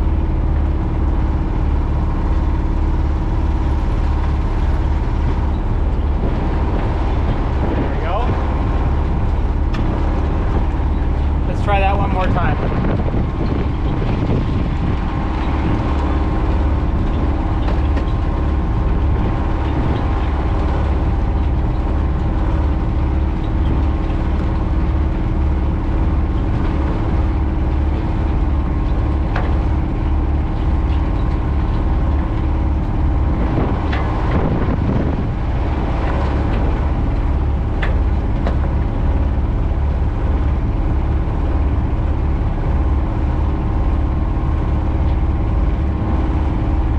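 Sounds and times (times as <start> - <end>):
boat engine humming: 0.0 - 46.9.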